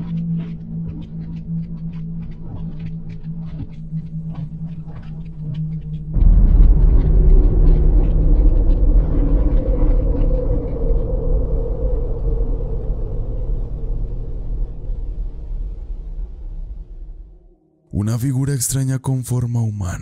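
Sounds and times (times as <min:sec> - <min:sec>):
steady droning tone: 0:00.0 - 0:18.0
deep rumbling drone: 0:00.0 - 0:18.1
steady low hum: 0:00.0 - 0:18.9.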